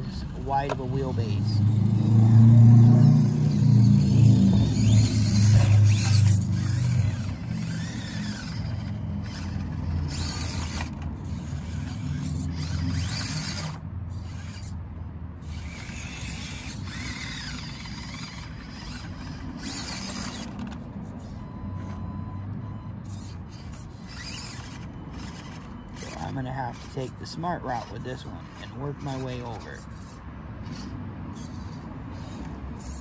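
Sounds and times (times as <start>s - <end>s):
small electric motor and gears: 0.0s - 33.0s.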